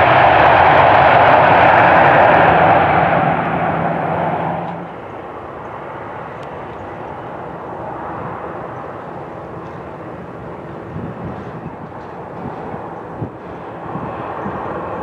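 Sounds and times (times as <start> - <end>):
distant jet engine hum: 0.0 - 15.0
loud jet engines drone: 0.0 - 15.0.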